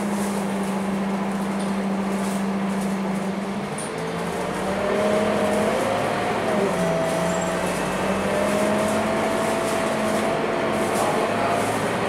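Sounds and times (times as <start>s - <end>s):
bus driveline whine: 0.0s - 12.0s
bus engine low hum: 0.0s - 12.0s.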